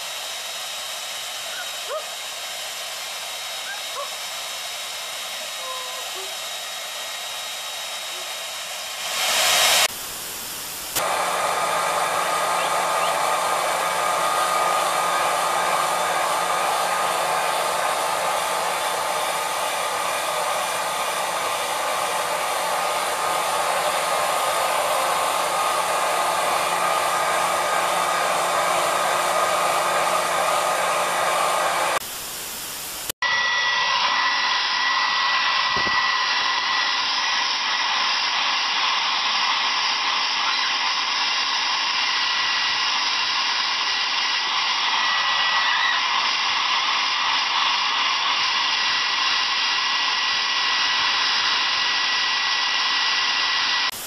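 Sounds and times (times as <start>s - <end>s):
hair dryer blowing air: 0.0s - 54.0s
hair dryer motor whine: 0.0s - 54.0s.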